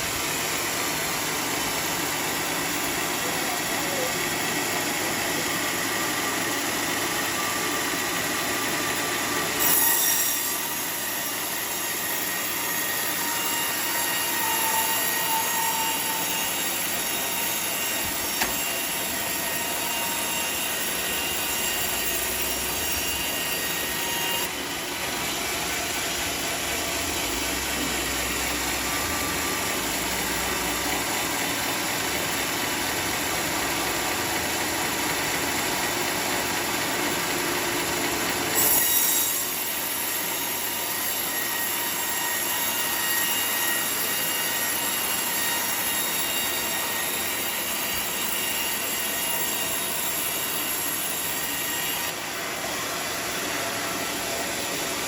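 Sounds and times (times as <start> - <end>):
sawmill saw screeching: 0.0 - 55.0.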